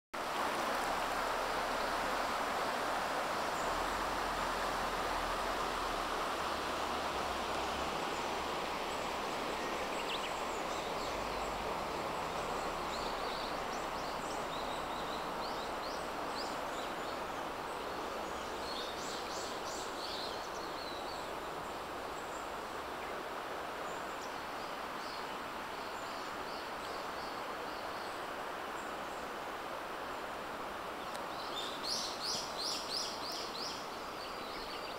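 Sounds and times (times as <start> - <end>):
river water rushing over rocks: 0.2 - 34.9.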